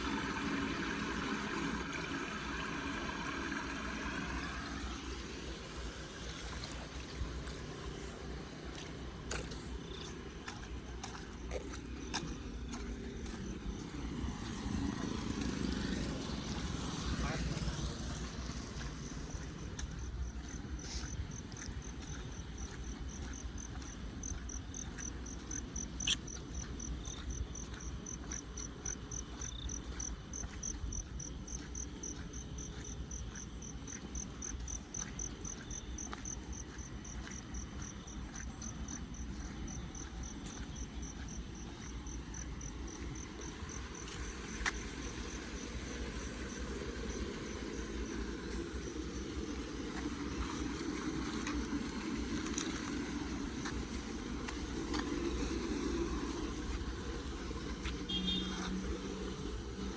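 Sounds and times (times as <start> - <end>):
constant low rumble: 0.0 - 59.9
cricket chirping: 6.3 - 59.9.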